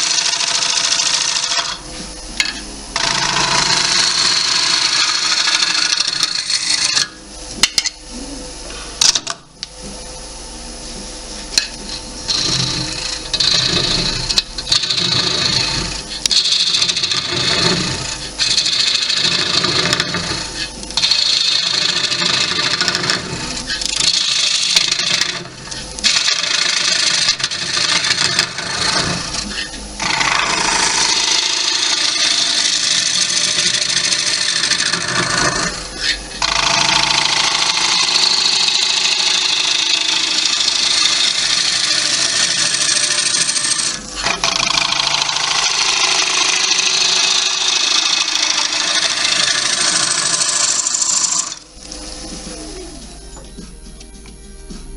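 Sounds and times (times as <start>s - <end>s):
gouge cutting wood on lathe: 0.0s - 1.8s, 2.9s - 7.2s, 11.9s - 52.8s
wood lathe humming: 0.0s - 7.2s, 11.6s - 53.2s.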